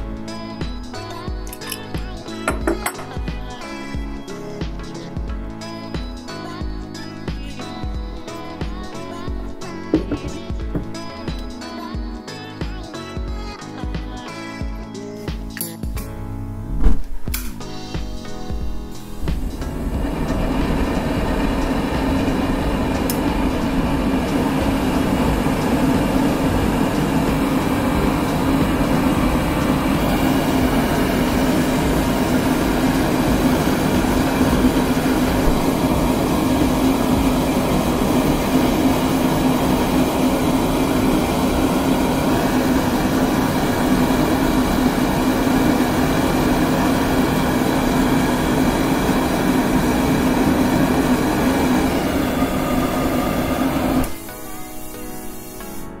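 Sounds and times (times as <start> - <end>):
gas burner roaring: 0.0 - 14.2, 15.0 - 56.0.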